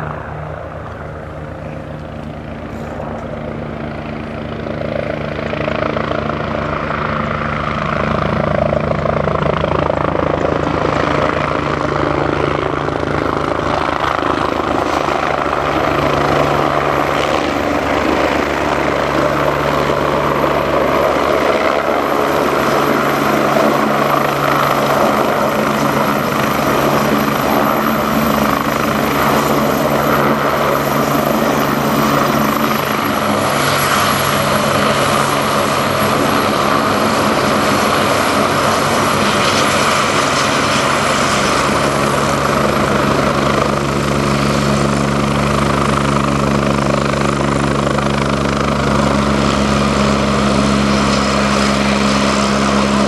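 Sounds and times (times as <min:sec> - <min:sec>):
helicopter rotor and turbine noise: 0:00.0 - 0:53.0
high turbine whine: 0:00.0 - 0:53.0.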